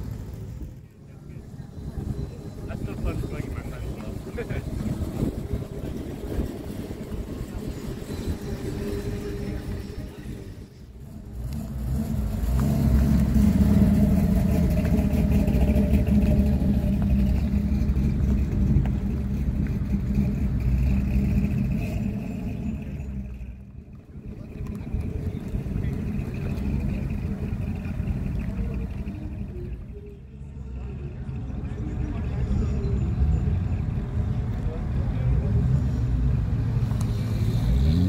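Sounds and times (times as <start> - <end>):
cars driving slowly past: 0.0 - 38.0.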